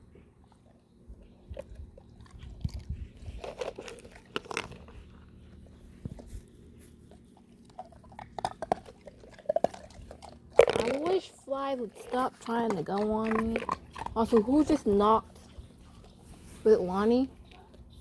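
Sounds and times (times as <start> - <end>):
dog crunching ice cubes: 0.5 - 16.2.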